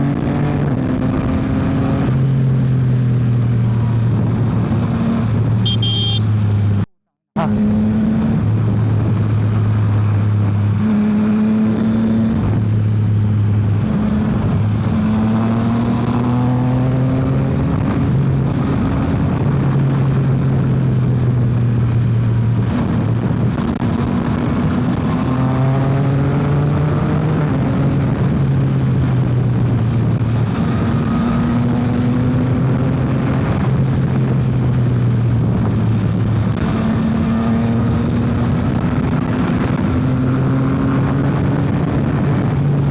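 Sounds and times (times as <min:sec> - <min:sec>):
wind and road noise: 0:00.0 - 0:42.9
motorcycle engine shifting gears: 0:07.5 - 0:42.9.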